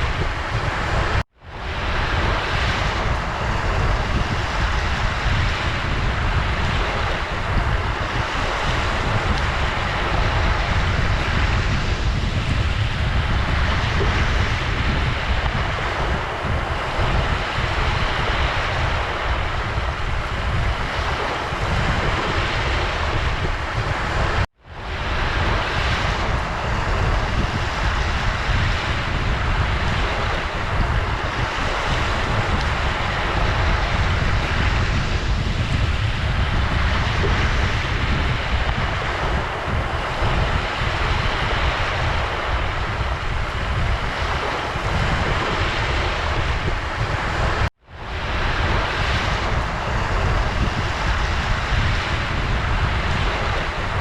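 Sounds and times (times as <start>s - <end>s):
ocean surf rushing: 0.0s - 54.0s.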